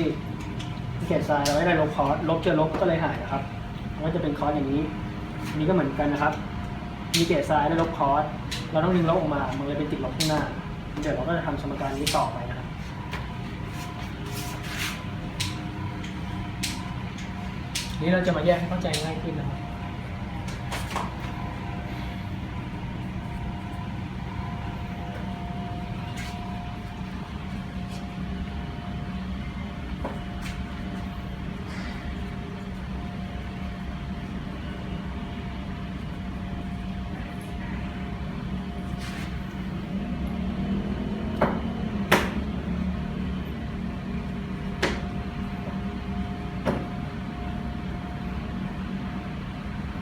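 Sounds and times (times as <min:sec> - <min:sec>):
low hum with high tone: 0:00.0 - 0:50.0.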